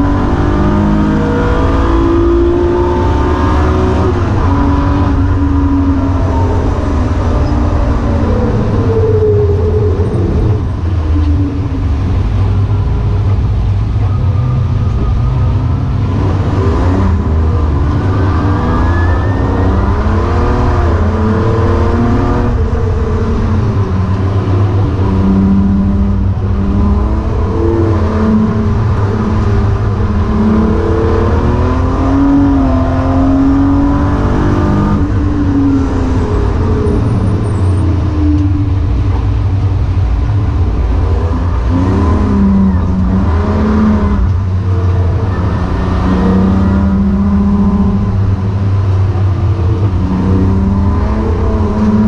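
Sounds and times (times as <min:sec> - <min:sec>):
car engine revving in cabin: 0:00.0 - 0:52.0.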